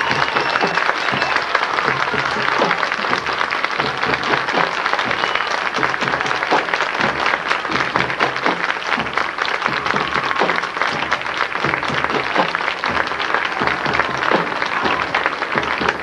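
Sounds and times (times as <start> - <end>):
crowd applauding: 0.0 - 16.0
marching band music: 0.0 - 16.0.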